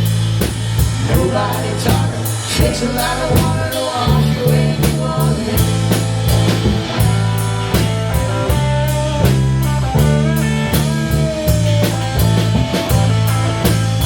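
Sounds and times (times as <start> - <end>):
blues-rock instrumental: 0.0 - 14.0.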